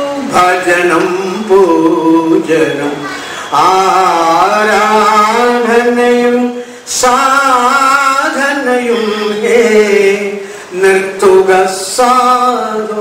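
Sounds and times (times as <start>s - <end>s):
man chanting verse through microphone: 0.0s - 13.0s.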